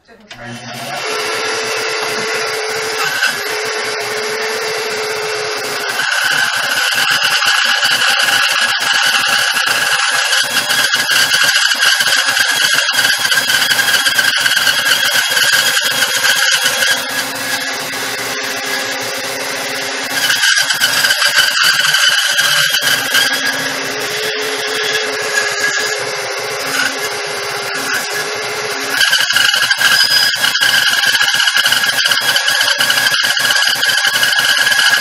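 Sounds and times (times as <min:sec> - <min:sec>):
bandsaw blade squealing whine: 0:00.4 - 0:35.0.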